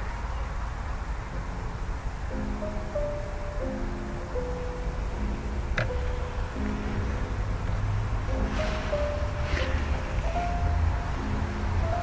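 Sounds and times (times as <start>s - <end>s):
slow sustained background music: 0.2s - 12.0s.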